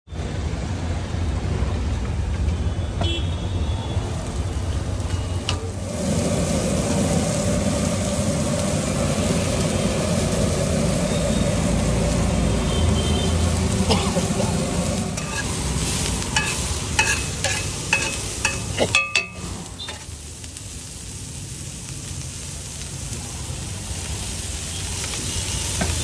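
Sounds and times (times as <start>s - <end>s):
street traffic rumble: 0.1s - 26.0s
onions sizzling on a griddle: 0.3s - 26.0s.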